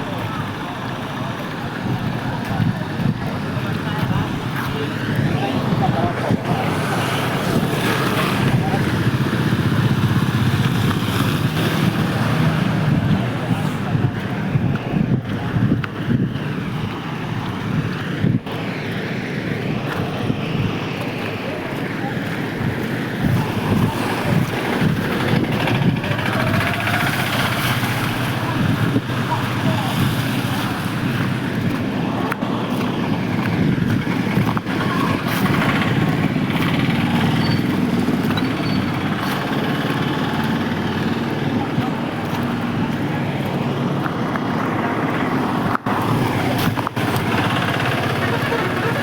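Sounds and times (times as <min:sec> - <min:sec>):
heavy rain pouring: 0:00.0 - 0:17.7, 0:20.1 - 0:49.0
wind buffeting microphone: 0:00.0 - 0:49.0.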